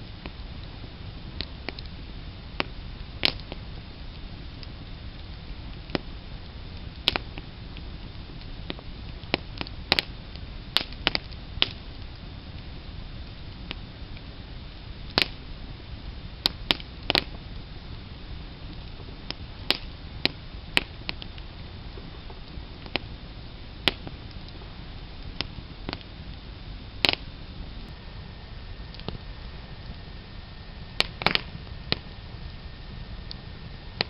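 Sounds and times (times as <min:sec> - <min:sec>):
steady low background noise: 0:00.0 - 0:34.0
wood fire crackling: 0:00.0 - 0:34.0.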